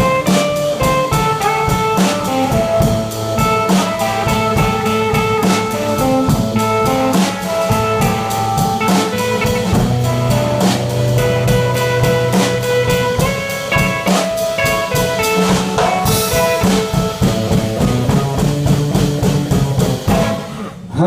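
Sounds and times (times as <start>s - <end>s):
drum kit beat: 0.0s - 20.8s
lead melody with bending notes: 0.0s - 20.8s
guitar: 0.0s - 21.0s.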